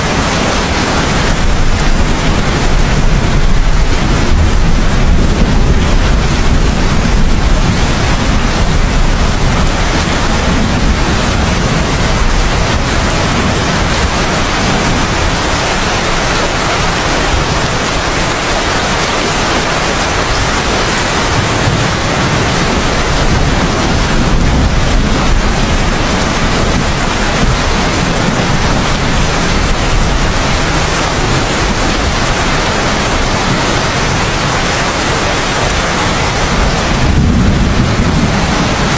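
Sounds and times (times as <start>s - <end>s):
heavy rain: 0.0s - 38.9s
low thunder rumble: 0.0s - 38.9s.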